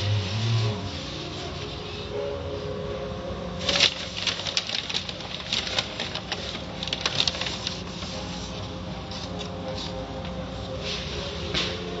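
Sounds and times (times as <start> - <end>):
car wash machinery hum: 0.0 - 12.0.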